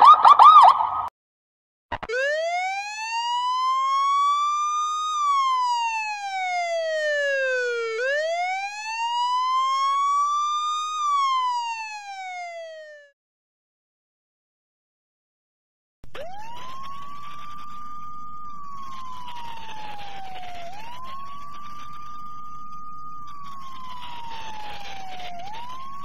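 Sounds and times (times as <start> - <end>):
emergency siren wailing: 0.0 - 1.1, 2.0 - 13.2, 16.1 - 26.0.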